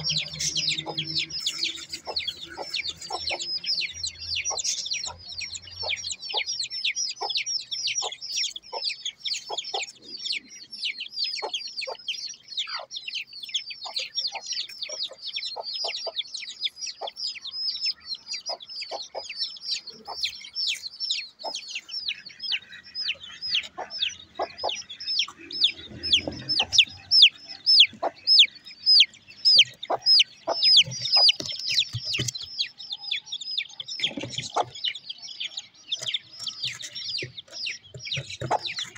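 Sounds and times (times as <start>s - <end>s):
chick peeping: 0.0s - 38.9s.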